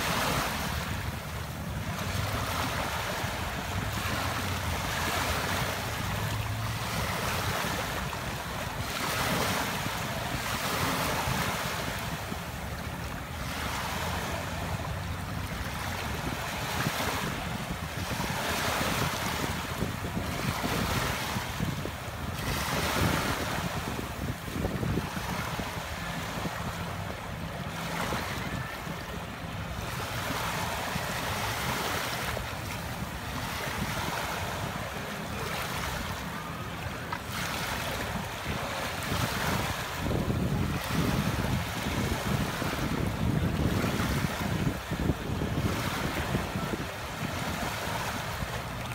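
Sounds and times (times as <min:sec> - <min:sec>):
small waves washing on shore: 0:00.0 - 0:48.9
wind rumbling on microphone: 0:00.0 - 0:48.9.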